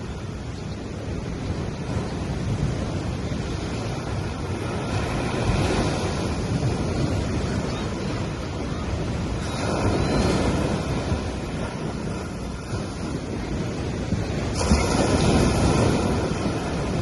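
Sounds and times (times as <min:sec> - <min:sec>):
small waves washing onto sand: 0:00.0 - 0:17.0
wind rumbling on microphone: 0:00.0 - 0:17.0.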